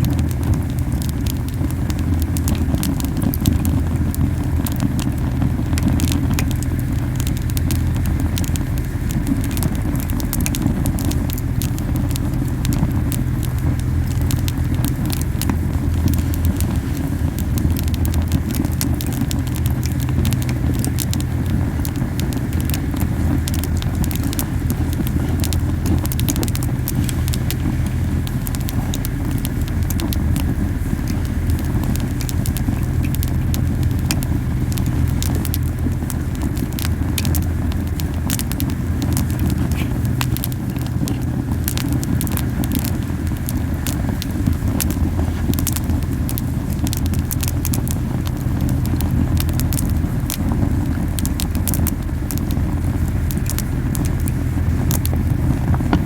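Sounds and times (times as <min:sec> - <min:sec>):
campfire flames rumbling: 0:00.0 - 0:56.0
wood crackling and popping: 0:00.0 - 0:56.0.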